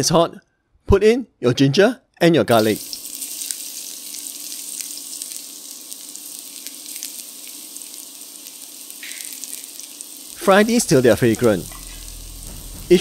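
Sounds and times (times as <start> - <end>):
garlic sizzling in hot oil: 2.5 - 13.0.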